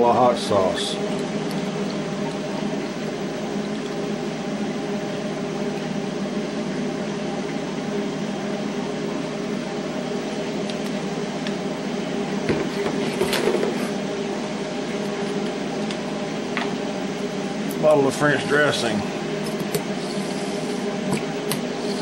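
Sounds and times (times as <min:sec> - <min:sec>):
fan or motor hum: 0:00.0 - 0:22.0.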